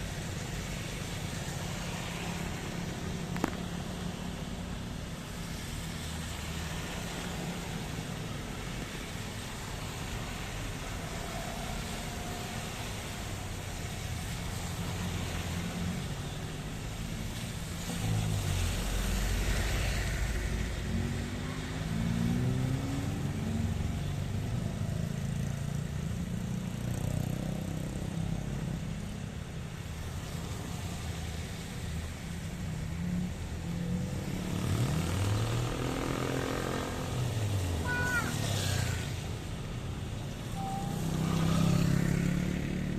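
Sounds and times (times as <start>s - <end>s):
steady rain: 0.0s - 42.9s
vehicles passing by: 0.0s - 42.9s.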